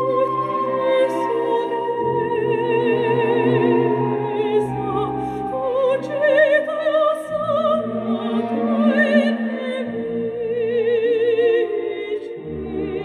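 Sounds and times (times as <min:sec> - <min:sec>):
operatic singing with vibrato: 0:00.0 - 0:13.0
orchestral accompaniment: 0:00.0 - 0:13.0.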